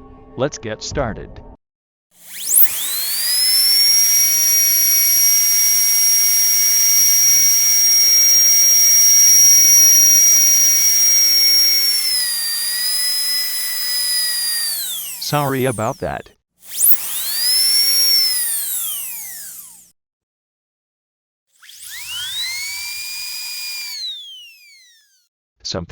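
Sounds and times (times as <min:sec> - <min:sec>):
dentist's drill whining: 0:02.2 - 0:19.9, 0:21.5 - 0:25.2.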